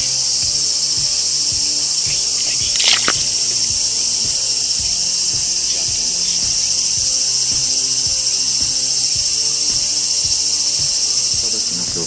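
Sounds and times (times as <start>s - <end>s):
high-pitched insect drone: 0.0s - 12.0s
music with steady beat: 0.0s - 12.0s.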